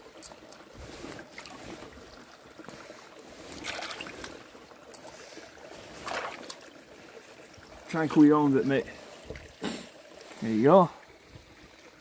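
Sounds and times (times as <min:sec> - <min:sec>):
stream trickling: 0:00.0 - 0:12.0.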